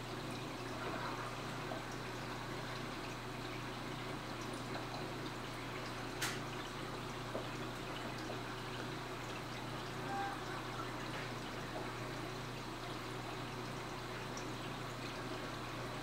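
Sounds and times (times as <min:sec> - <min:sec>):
low pump hum: 0:00.0 - 0:16.0
water trickling and splashing: 0:00.0 - 0:16.0.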